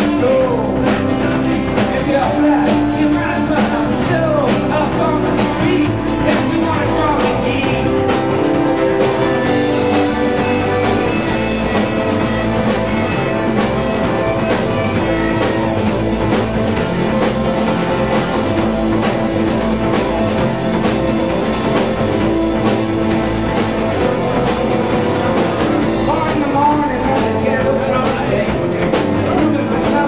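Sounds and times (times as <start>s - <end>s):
drum kit steady beat: 0.0s - 30.0s
strummed guitars: 0.0s - 30.0s.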